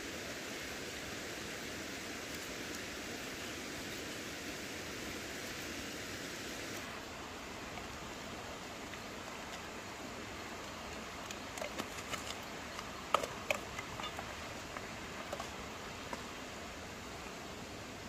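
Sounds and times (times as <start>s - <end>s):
stream rushing: 0.0s - 18.0s.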